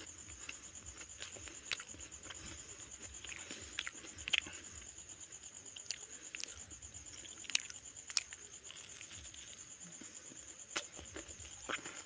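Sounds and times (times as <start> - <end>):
crunchy chewing of fried fritter: 0.0 - 12.0.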